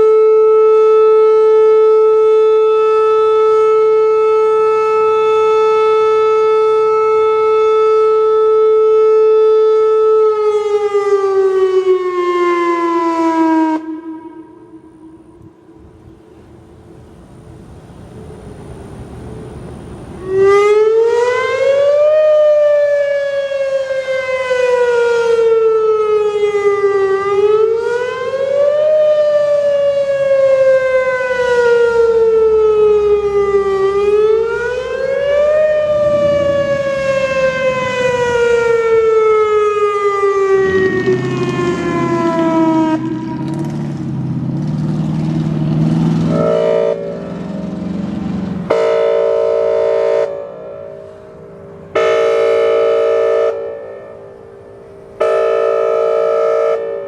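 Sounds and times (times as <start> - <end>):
warning siren rising and falling: 0.0 - 57.0.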